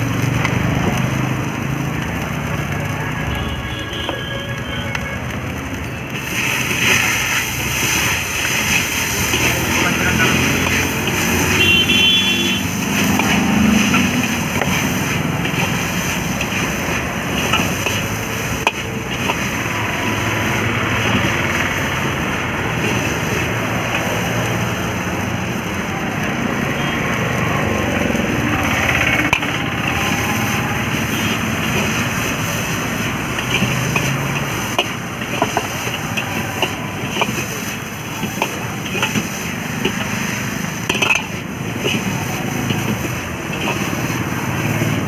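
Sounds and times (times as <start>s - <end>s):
steady background roar: 4.9s - 45.0s
ladle scraping metal wok: 6.1s - 25.8s, 28.3s - 45.0s.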